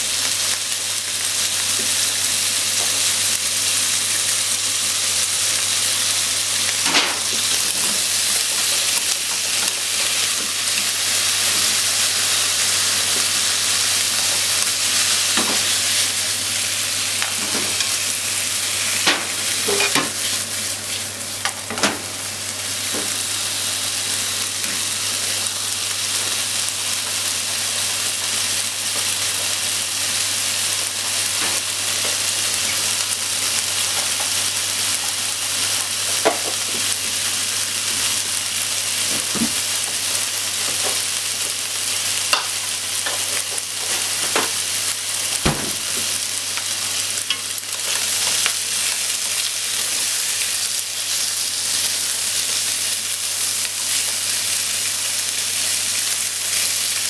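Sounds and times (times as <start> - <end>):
food sizzling in a frying pan: 0.0 - 57.0.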